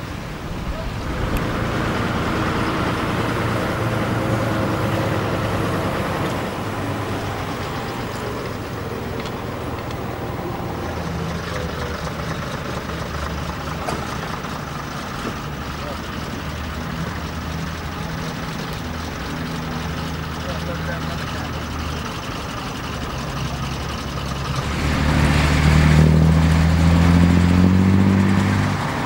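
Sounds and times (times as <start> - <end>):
diesel lorry engines running: 0.0 - 29.0.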